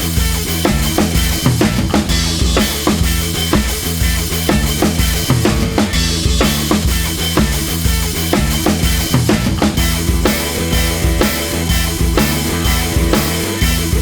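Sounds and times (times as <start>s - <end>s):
bass line: 0.0s - 14.0s
drum-driven background music: 0.0s - 14.0s.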